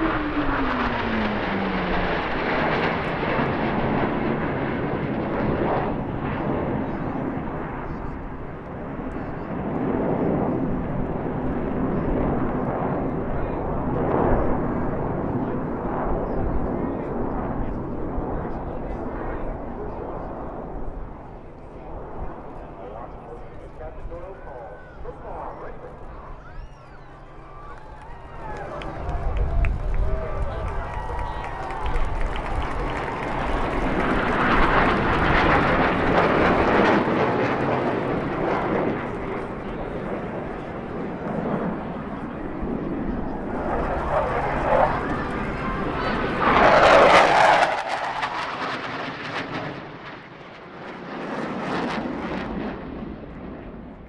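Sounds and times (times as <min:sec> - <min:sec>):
jet aircraft roaring: 0:00.0 - 0:54.0.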